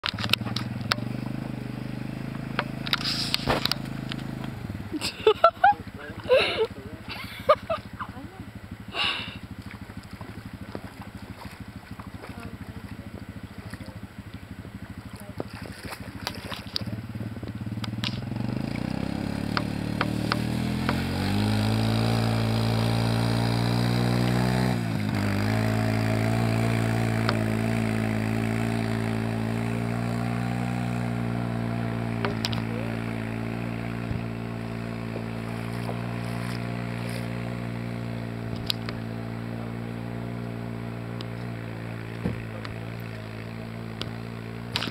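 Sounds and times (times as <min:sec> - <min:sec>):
quad engine revving: 0:00.0 - 0:44.9.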